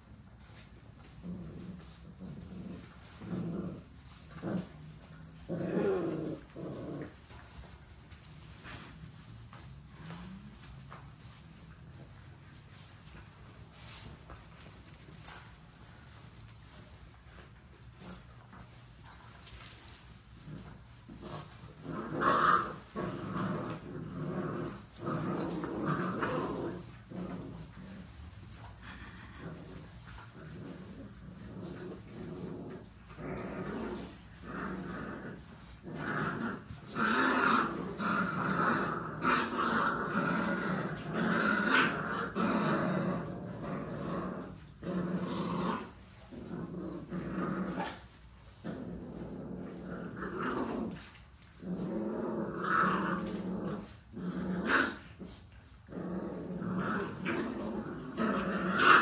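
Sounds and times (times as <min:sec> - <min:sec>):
puppies growling: 0:00.0 - 0:59.0.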